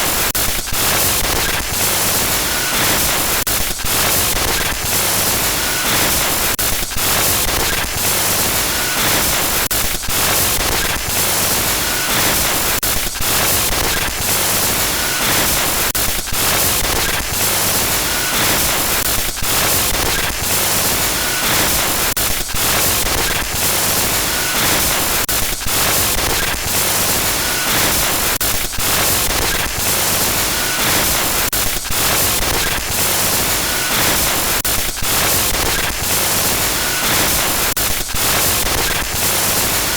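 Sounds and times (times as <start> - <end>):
glitchy static hiss: 0.0 - 39.9.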